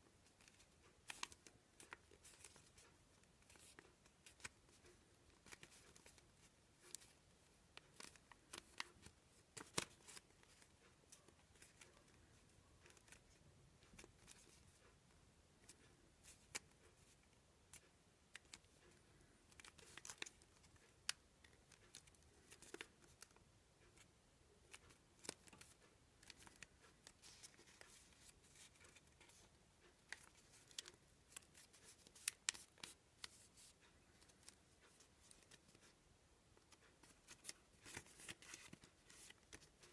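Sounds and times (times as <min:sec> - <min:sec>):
paper crinkling and crackling: 0:00.3 - 0:15.0, 0:19.5 - 0:36.0, 0:36.6 - 0:39.9.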